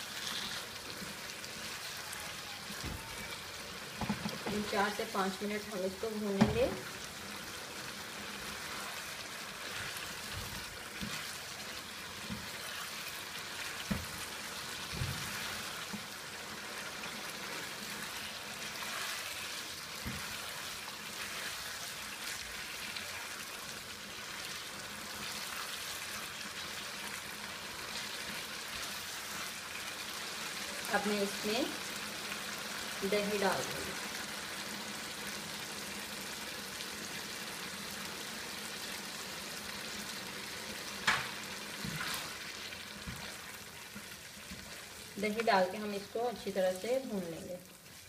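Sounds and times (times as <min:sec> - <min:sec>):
chicken sizzling in oil: 0:00.0 - 0:48.0.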